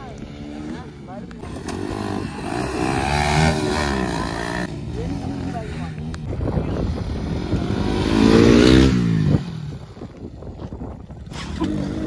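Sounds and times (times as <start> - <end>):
motorcycle engine revving: 0.0 - 10.7, 11.5 - 12.0.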